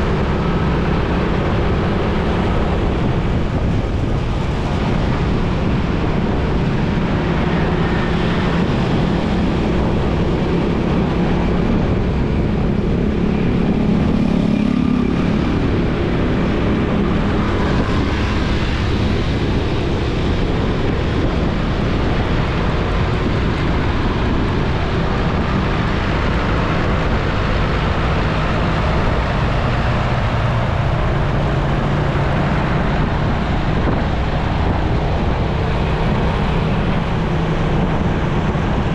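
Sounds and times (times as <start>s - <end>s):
motorcycle engine hum: 0.0s - 38.9s
wind and road noise: 0.0s - 38.9s.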